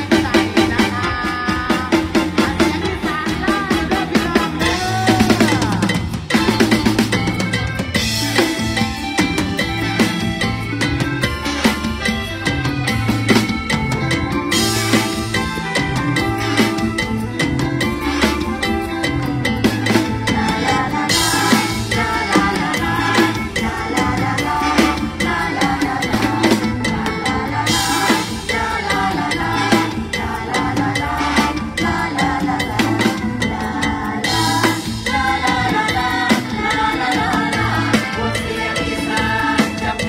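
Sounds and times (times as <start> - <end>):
band music: 0.0 - 40.0
drum kit steady beat: 0.0 - 40.0.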